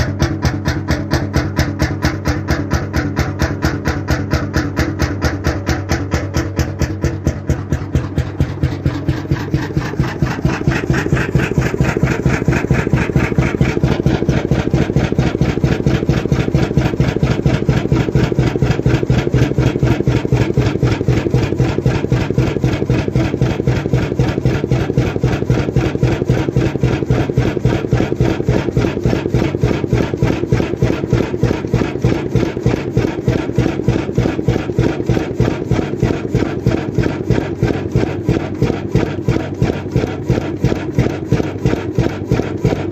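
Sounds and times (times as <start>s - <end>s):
oil engine running steadily: 0.0s - 42.9s.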